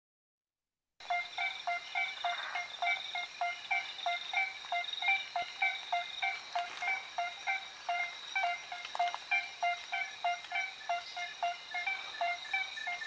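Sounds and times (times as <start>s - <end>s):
treefrog calling: 1.0s - 13.0s
high-pitched drone: 1.1s - 13.0s.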